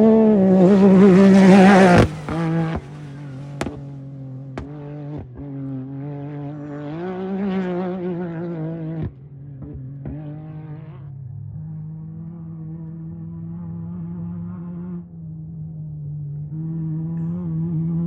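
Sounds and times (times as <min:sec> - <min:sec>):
race vehicle engine running: 0:00.0 - 0:18.0.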